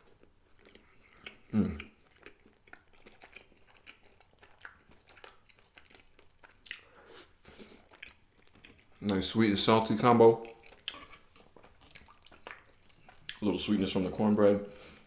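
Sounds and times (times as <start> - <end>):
person chewing food: 0.0 - 9.2, 10.4 - 13.8.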